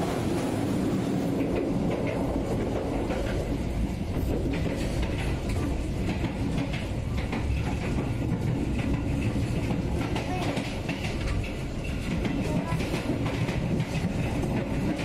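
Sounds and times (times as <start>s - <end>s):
train carriage rumbling: 0.0s - 15.0s
wheels clicking over rail joints: 1.0s - 15.0s.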